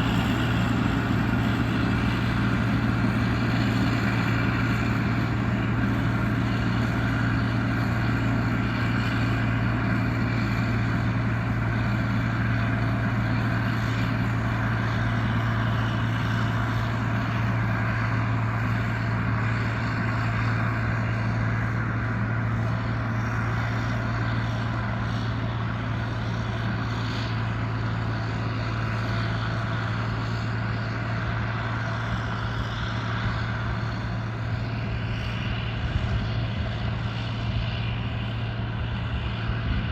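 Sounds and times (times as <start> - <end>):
farm machinery engine droning: 0.0 - 39.9.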